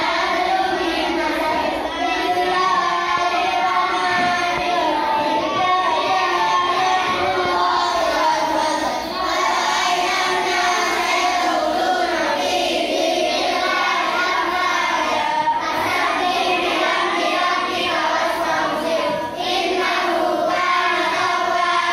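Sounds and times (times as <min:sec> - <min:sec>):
children chanting together: 0:00.0 - 0:21.9.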